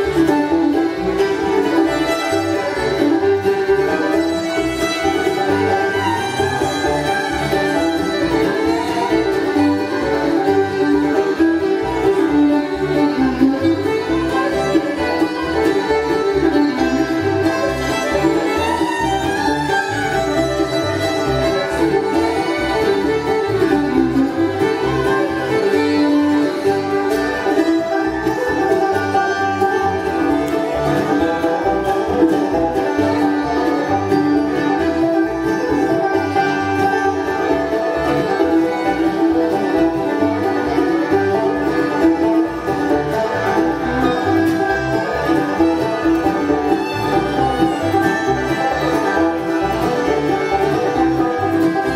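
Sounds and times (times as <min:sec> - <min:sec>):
bluegrass band playing: 0:00.0 - 0:51.9
fiddle lead: 0:00.0 - 0:51.9.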